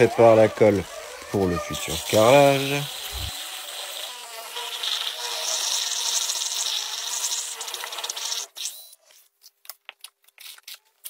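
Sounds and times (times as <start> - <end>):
drill mixer whirring: 0.0 - 8.9.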